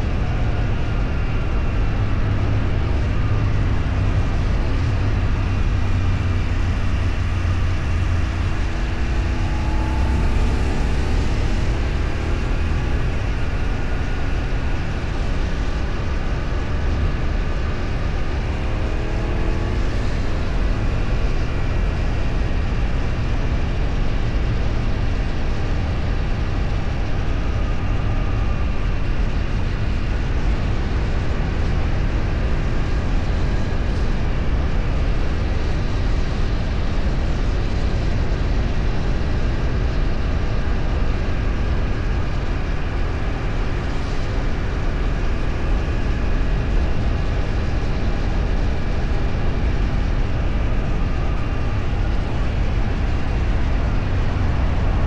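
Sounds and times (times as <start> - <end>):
heavy low rumble: 0.0 - 55.0
wind rush and road noise: 0.0 - 55.0.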